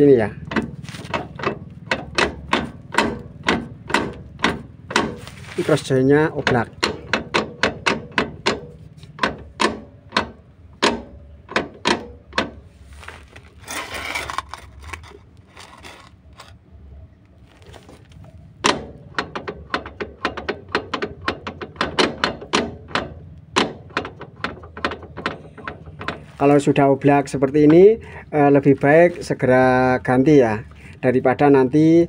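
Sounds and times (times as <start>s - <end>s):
metal joint clacking: 0.4s - 12.7s, 13.6s - 16.6s, 18.6s - 29.1s.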